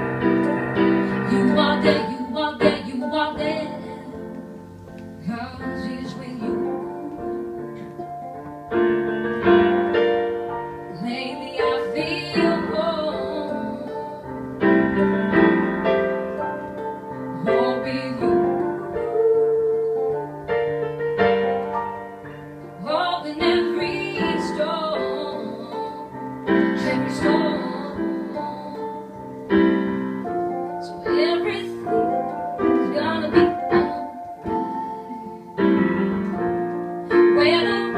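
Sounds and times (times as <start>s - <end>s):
woman singing: 0.0s - 8.4s, 10.8s - 20.7s, 22.6s - 37.9s
piano chords: 0.0s - 37.9s.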